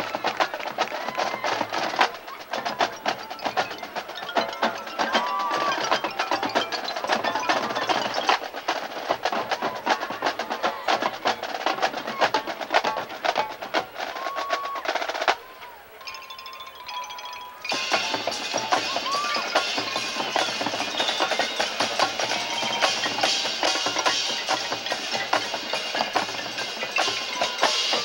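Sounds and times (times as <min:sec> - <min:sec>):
marching bass drums: 0:00.0 - 0:15.5, 0:17.7 - 0:28.0
snare drums: 0:00.0 - 0:16.4, 0:17.6 - 0:28.0
tenor drums: 0:00.0 - 0:28.0.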